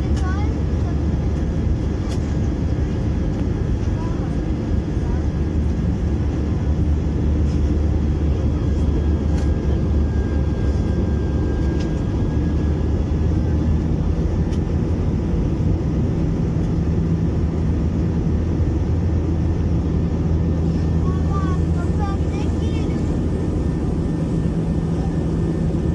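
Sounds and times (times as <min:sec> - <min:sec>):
jet engine cabin rumble: 0:00.0 - 0:25.9.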